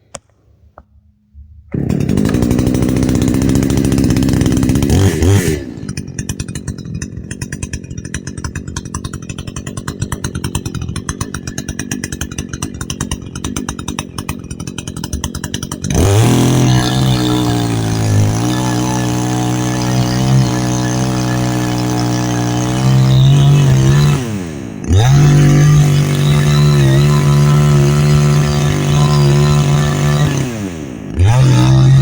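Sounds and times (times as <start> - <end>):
chainsaw engine revving and idling: 1.7 - 32.0.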